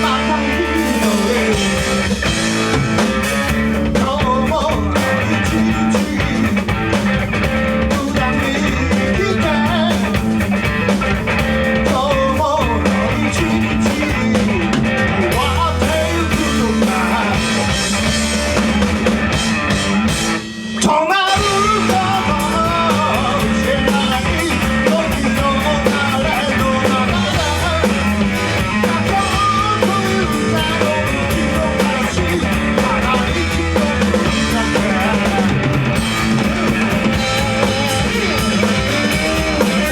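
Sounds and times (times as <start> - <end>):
person singing: 0.0 - 3.1, 3.8 - 10.4, 11.8 - 17.8, 20.8 - 39.9
rock band playing live: 0.0 - 39.9.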